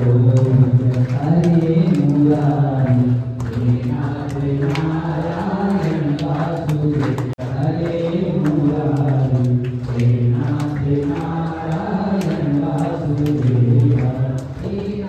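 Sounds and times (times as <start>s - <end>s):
group chanting in unison: 0.0s - 15.0s.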